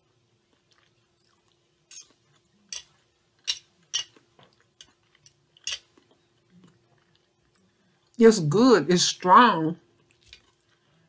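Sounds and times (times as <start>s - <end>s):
person chewing food: 0.0s - 8.2s, 9.9s - 11.0s
faint steady hum: 0.0s - 11.0s.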